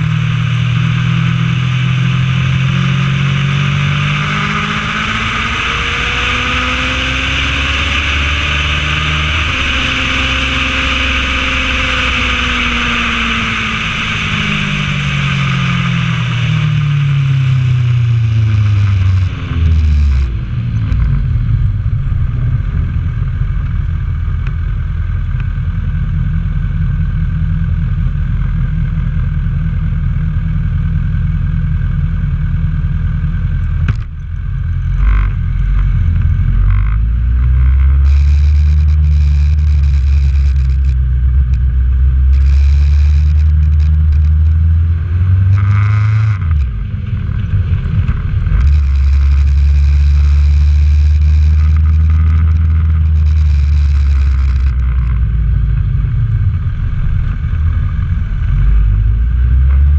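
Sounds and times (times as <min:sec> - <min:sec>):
motorcycle engine decelerating: 0:00.0 - 0:59.9.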